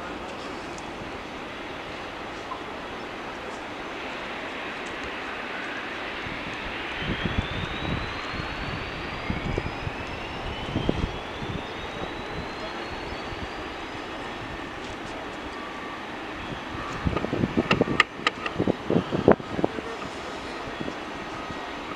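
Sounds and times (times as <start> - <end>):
jet engines spooling up: 0.0 - 21.9.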